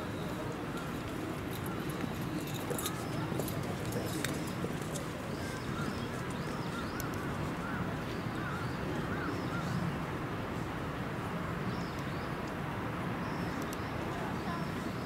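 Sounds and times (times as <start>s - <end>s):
outdoor background murmur: 0.0s - 15.0s.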